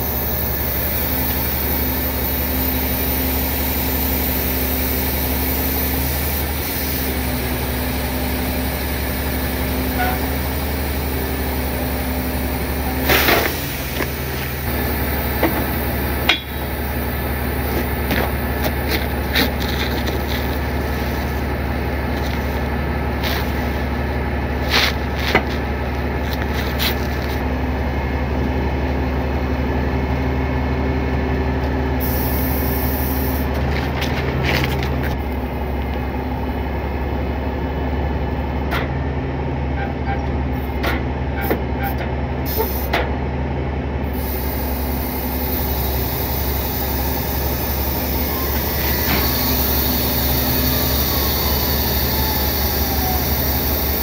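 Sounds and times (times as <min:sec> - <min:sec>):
tow truck hydraulic hum: 0:00.0 - 0:54.0.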